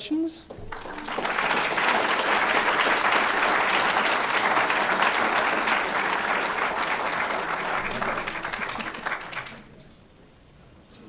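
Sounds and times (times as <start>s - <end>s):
audience applauding: 0.5s - 9.8s.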